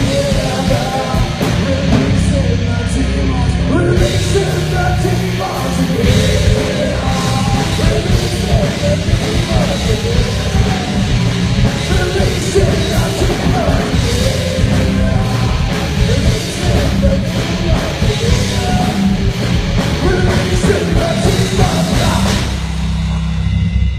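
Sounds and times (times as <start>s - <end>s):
fast pounding drums: 0.0s - 23.6s
sung vocals: 0.0s - 23.6s
distorted guitars and bass: 0.0s - 23.9s.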